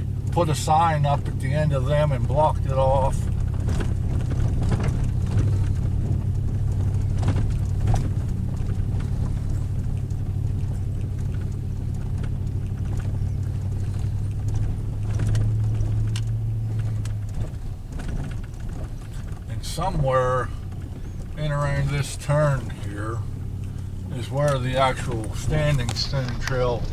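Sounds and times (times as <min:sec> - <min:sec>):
engine and road drone: 0:00.0 - 0:26.9
knocks and rattles from bumps: 0:00.0 - 0:26.9.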